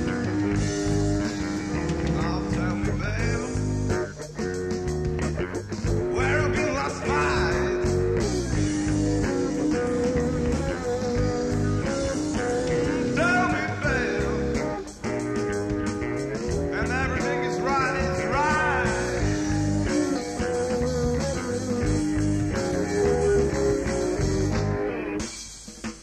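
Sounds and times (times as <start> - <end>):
electric guitar with bending notes: 0.0 - 26.0
rock band playing: 0.0 - 26.0.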